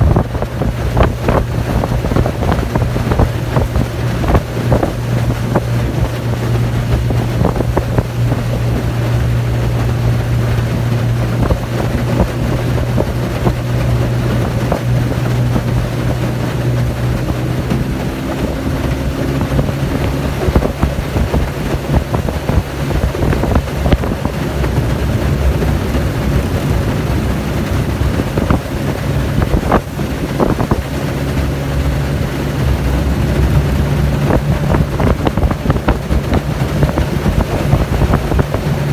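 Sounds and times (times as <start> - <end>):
outboard motor running: 0.0 - 38.9
wind buffeting microphone: 0.0 - 38.9.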